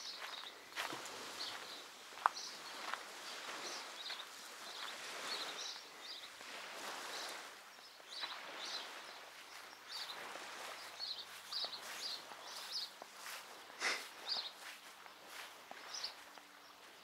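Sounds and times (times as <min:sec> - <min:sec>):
small birds chirping: 0:00.0 - 0:17.0
steady outdoor hiss: 0:00.0 - 0:17.0.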